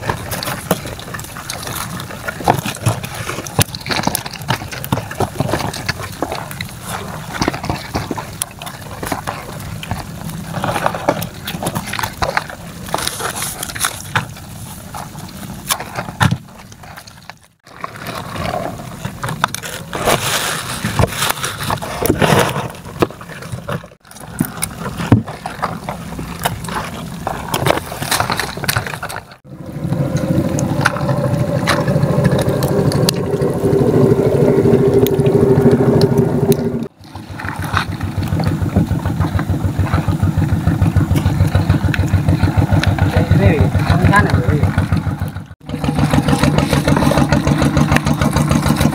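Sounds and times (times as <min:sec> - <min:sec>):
scraping and clicking: 0:00.0 - 0:48.9
small engine hum: 0:00.0 - 0:48.9
wet sloshing: 0:00.0 - 0:48.9.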